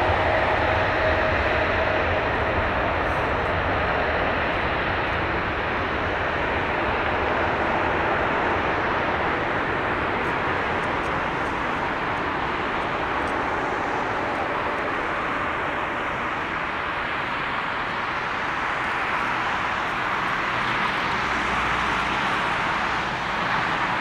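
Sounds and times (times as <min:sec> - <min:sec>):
jet engine noise: 0:00.0 - 0:24.0.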